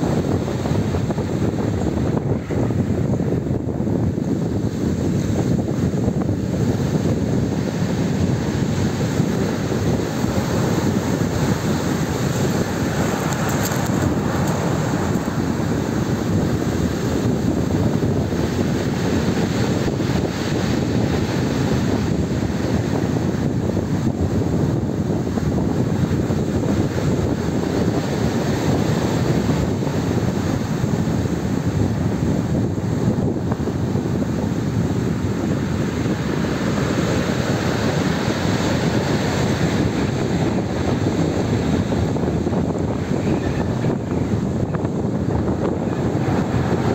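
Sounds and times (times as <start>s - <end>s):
big waves breaking: 0.0s - 46.9s
wind rumbling on microphone: 0.0s - 46.9s.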